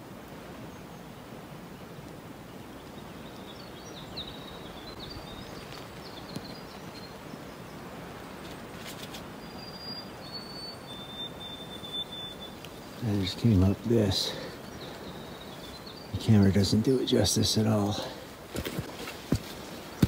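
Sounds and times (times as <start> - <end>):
background hiss: 0.0 - 20.0
songbirds singing: 0.0 - 20.0.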